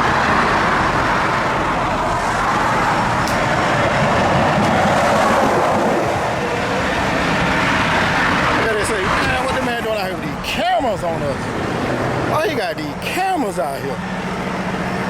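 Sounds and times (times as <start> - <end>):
truck engine running under load: 0.0 - 15.0.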